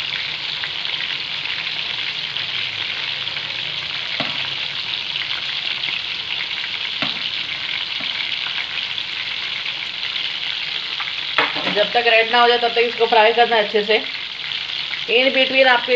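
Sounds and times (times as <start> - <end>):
prawns sizzling in hot oil: 0.0 - 15.9.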